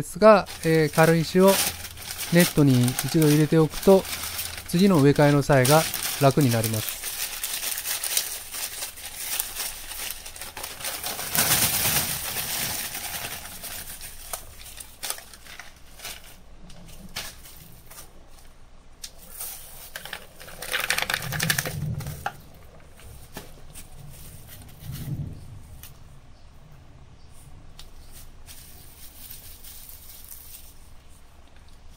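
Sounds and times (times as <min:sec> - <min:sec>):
plastic bag rustling: 0:00.2 - 0:26.0, 0:27.9 - 0:31.9.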